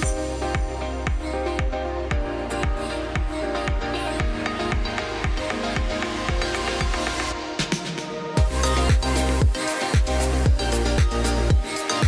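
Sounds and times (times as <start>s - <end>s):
bass drum beat: 0.0s - 7.2s, 8.4s - 11.6s.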